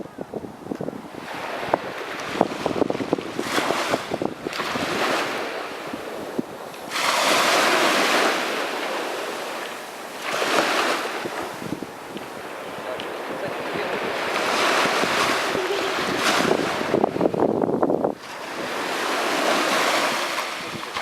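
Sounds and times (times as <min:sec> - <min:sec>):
waves breaking on beach: 0:00.0 - 0:21.0
frothy surf wash: 0:00.9 - 0:21.0.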